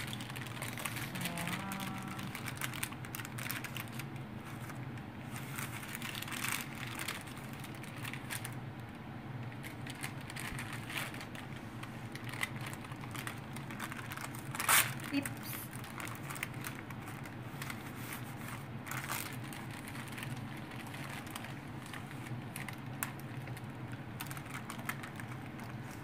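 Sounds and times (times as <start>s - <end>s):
baking paper rustling and crinkling: 0.0s - 26.0s
steady low hum: 0.0s - 26.0s.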